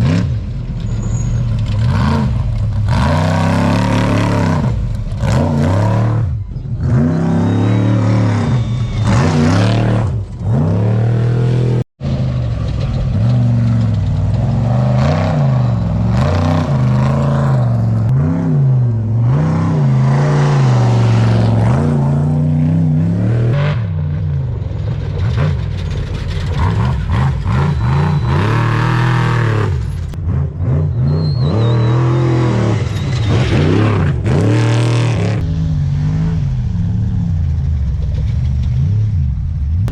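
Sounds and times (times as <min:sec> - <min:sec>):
race engines revving: 0:00.0 - 0:39.9.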